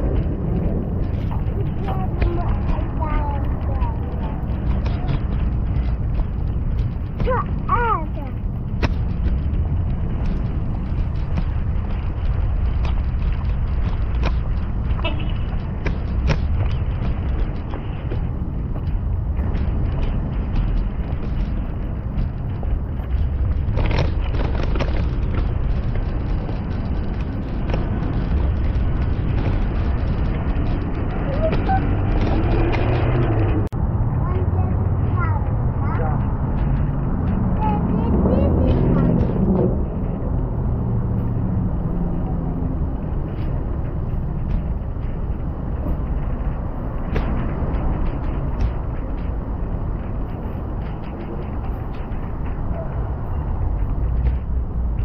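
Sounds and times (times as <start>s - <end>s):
clicks and rattles: 0.0s - 55.0s
stroller wheels rumbling on concrete: 0.0s - 55.0s.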